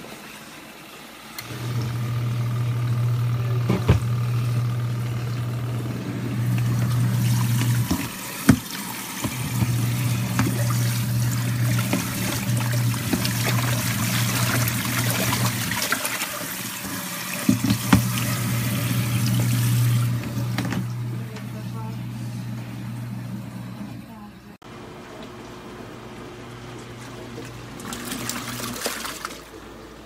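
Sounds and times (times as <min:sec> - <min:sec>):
water swishing in tub: 0:00.0 - 0:23.8, 0:25.1 - 0:30.0
washing machine motor hum: 0:00.0 - 0:30.0.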